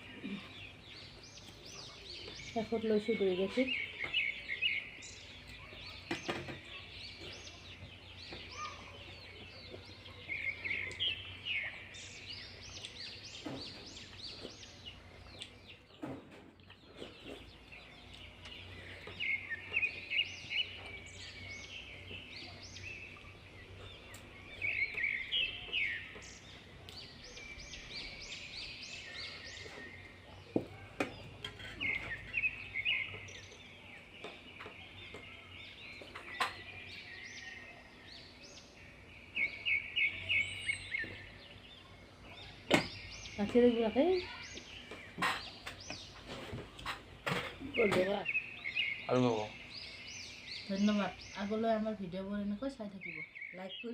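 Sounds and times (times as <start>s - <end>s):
birds chirping: 0.0s - 53.9s
low steady background noise: 0.0s - 53.9s.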